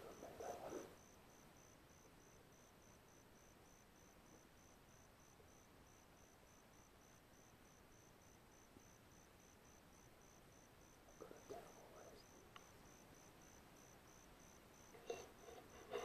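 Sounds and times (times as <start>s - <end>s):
faint background hiss: 0.0s - 16.0s
faint pulsing high tone: 0.0s - 16.0s.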